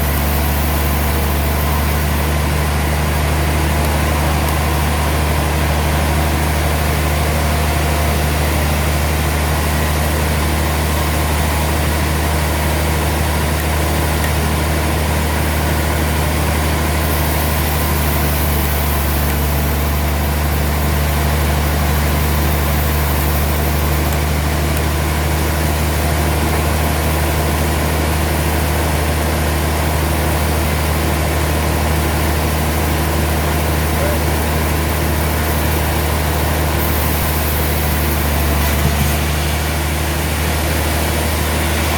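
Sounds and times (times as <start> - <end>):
sawmill machinery drone: 0.0 - 41.9.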